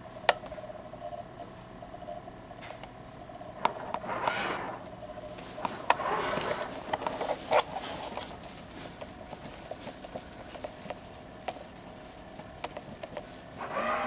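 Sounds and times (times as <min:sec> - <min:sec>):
faint tape motor hum: 0:00.0 - 0:14.0.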